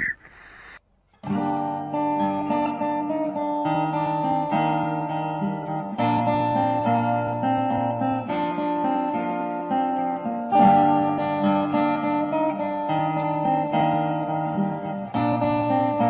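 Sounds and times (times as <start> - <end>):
fingerpicked acoustic guitar: 1.0 - 16.0.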